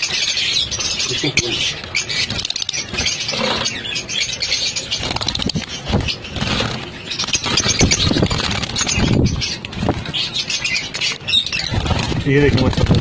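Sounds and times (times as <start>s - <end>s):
parrots chattering and chirping: 0.0s - 13.0s.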